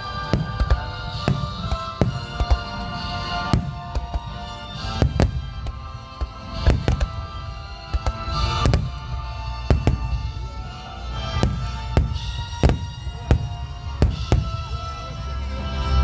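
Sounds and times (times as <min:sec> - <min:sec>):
fireworks bursting: 0:00.0 - 0:16.0
music with sustained notes: 0:00.0 - 0:16.0.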